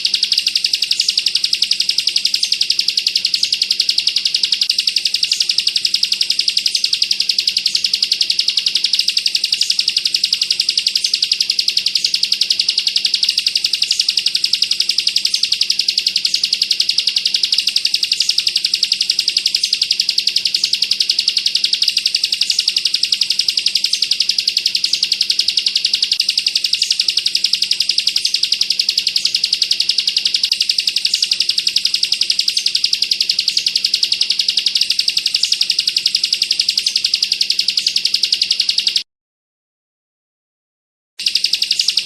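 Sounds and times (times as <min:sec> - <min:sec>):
bird singing rapid trill: 0:00.0 - 0:39.0, 0:41.2 - 0:42.0.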